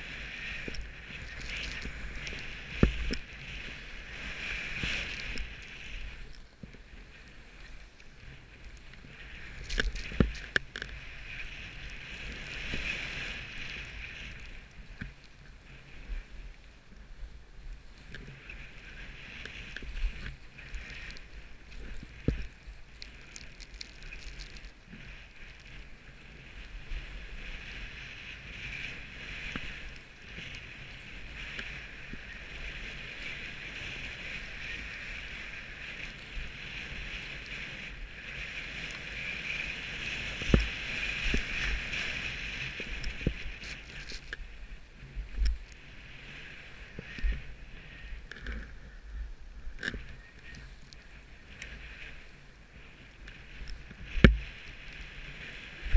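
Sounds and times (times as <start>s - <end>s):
skis swishing through snow: 0.0s - 55.9s
wind noise on microphone: 0.0s - 55.9s.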